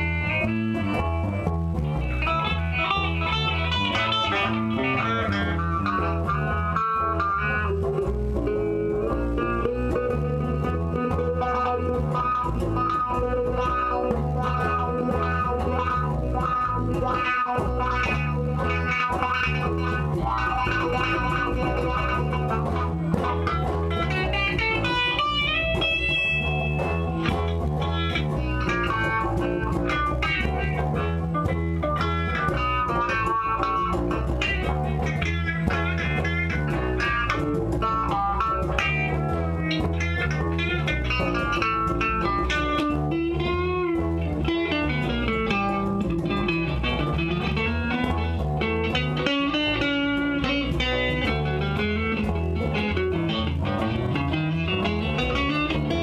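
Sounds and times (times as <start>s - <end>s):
electric guitars playing: 0.0s - 56.0s.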